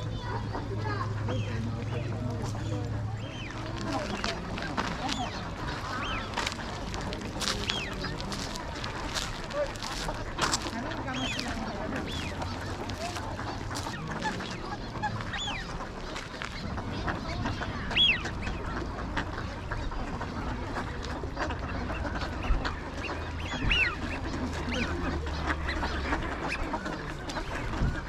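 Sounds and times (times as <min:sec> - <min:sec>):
flock of ducks calling: 0:00.0 - 0:28.0.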